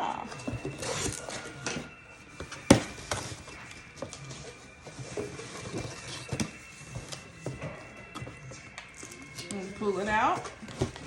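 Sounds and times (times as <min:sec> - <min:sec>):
packaging rustling: 0:00.3 - 0:11.0.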